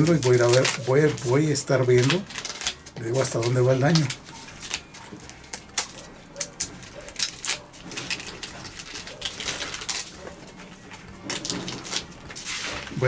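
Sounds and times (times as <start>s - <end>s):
dry bark cracking and snapping: 0.0s - 13.0s.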